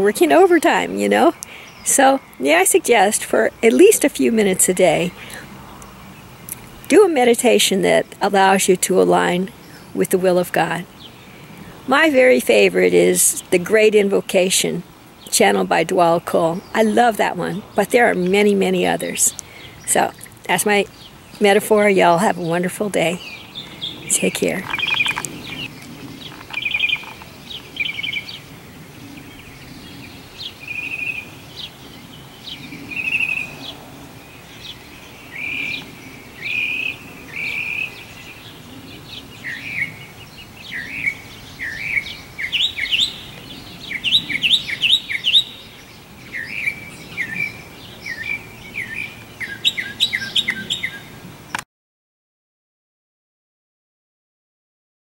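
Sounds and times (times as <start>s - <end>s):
songbirds chirping: 0.0s - 51.6s.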